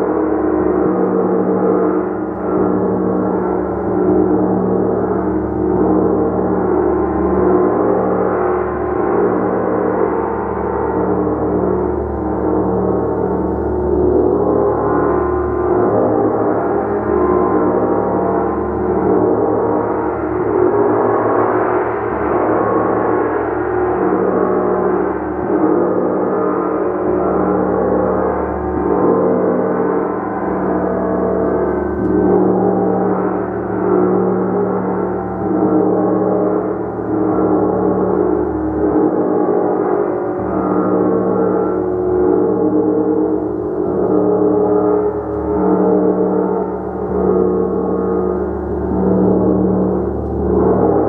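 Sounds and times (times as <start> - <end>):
gong ringing: 10.0 - 51.0.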